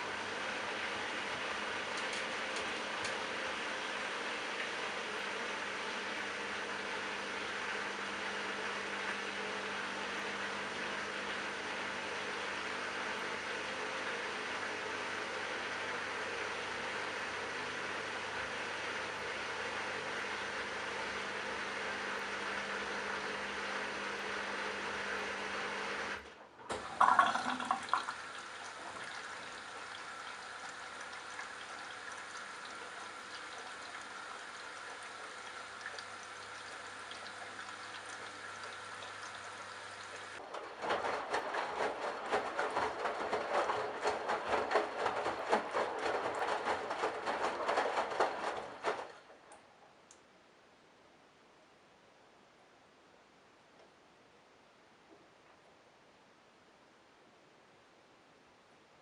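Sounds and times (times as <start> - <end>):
washing machine hum: 0.0 - 50.1.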